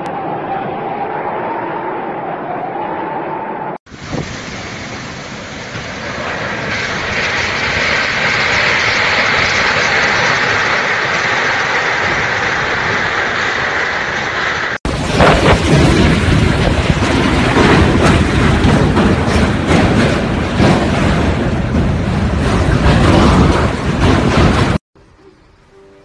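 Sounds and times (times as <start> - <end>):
storm wind and rain: 3.9 - 24.8.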